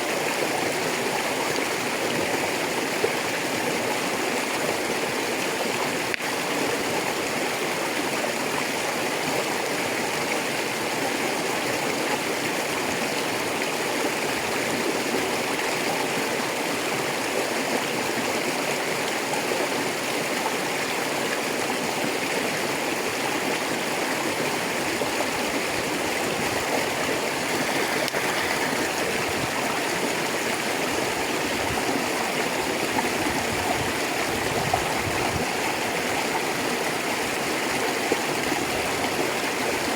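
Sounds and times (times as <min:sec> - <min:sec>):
river rushing over stones: 0:00.0 - 0:39.9.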